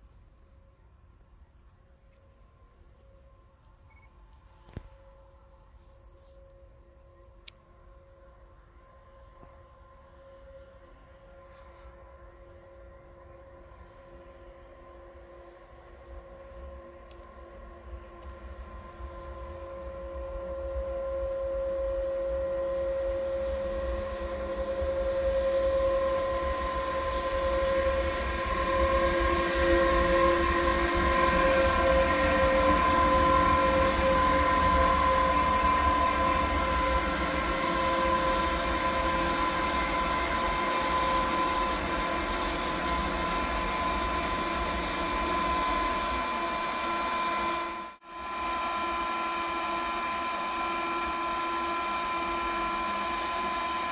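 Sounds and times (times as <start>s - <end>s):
rail rumble: 6.4s - 53.9s
high electric whining: 9.2s - 53.9s.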